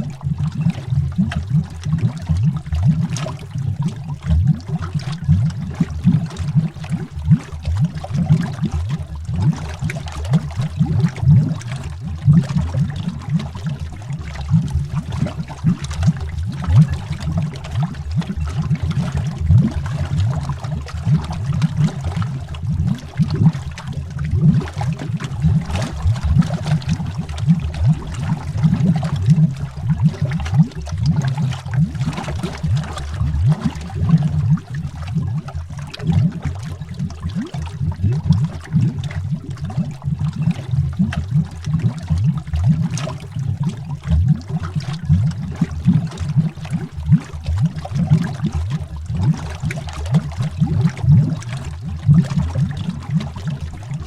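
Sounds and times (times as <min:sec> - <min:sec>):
underwater bubbling: 0:00.0 - 0:54.0.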